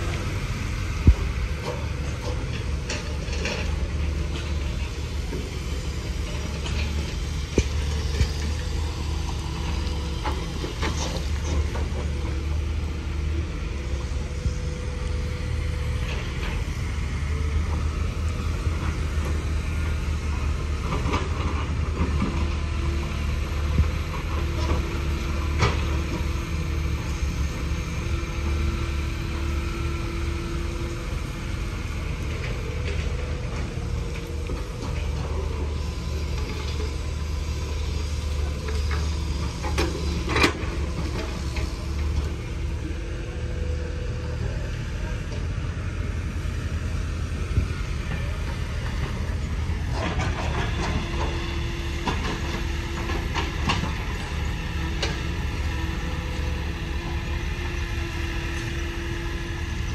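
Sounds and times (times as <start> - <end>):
diesel machinery idling: 0.0 - 59.9.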